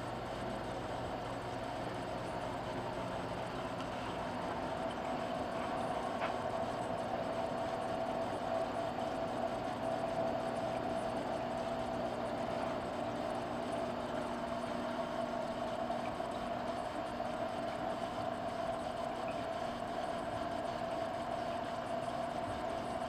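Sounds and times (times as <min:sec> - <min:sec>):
aquarium filter humming: 0:00.0 - 0:23.0.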